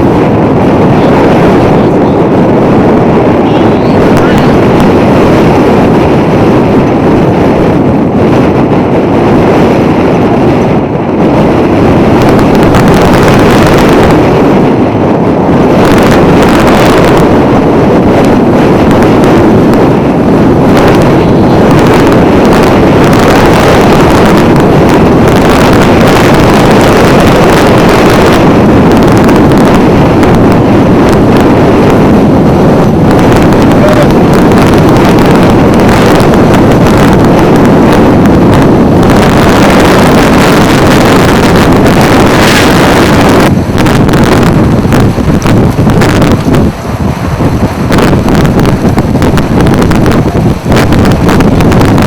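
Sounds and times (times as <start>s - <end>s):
gusty wind on microphone: 0.0s - 52.0s.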